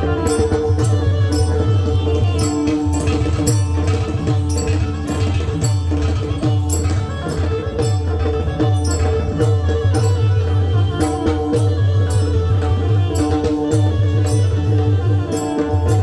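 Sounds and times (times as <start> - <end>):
hand drum strokes: 0.0 - 16.0.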